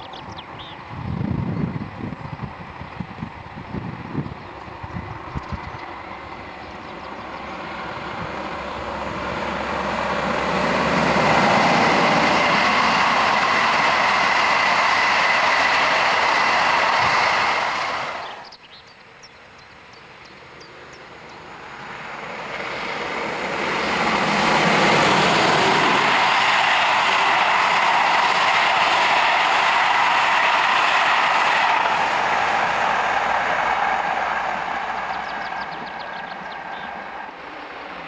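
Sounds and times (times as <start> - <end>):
approaching train: 0.0 - 38.0
passing train wheel-on-rail noise: 0.0 - 38.0.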